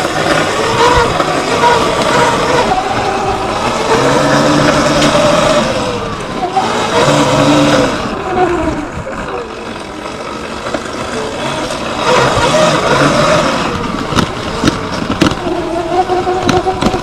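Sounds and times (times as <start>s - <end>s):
electric motor whining: 0.0s - 17.0s
rushing noise of riding: 0.0s - 17.0s.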